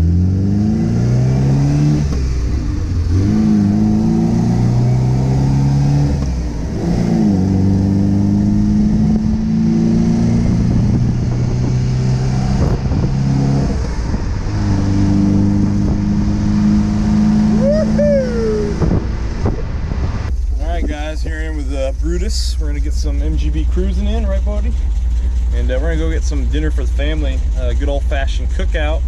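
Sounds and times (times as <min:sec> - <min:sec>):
car engine pulling under throttle: 0:00.0 - 0:20.9, 0:22.2 - 0:29.0.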